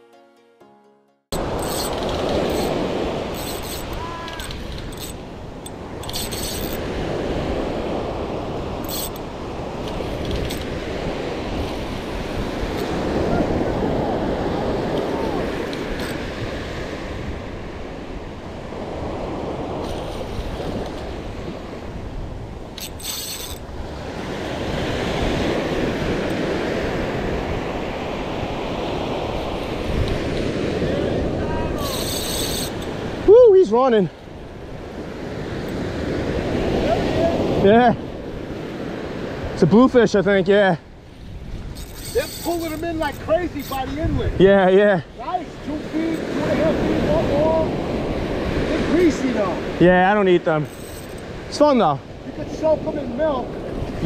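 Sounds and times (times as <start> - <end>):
wind on microphone: 1.3 - 39.7, 40.9 - 49.8
surf washing up beach: 1.3 - 54.0.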